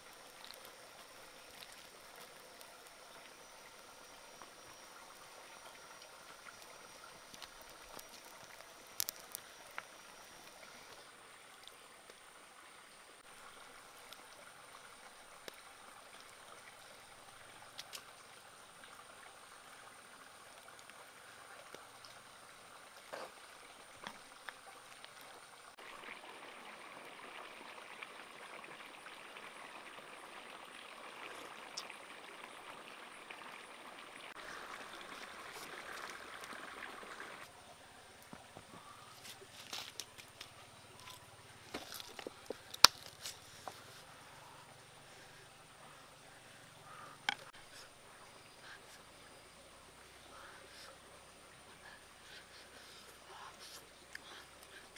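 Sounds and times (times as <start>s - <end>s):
broth boiling in a wok: 0.0s - 54.9s.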